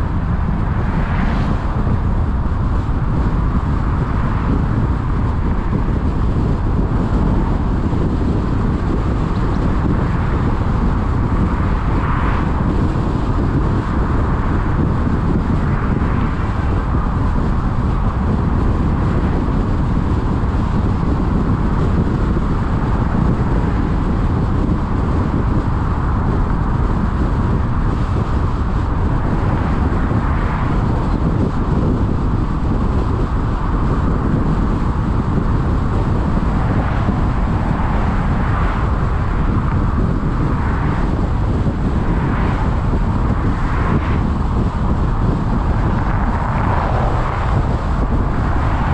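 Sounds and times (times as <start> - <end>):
car road noise: 0.0 - 48.9
faint passing vehicles: 0.0 - 48.9.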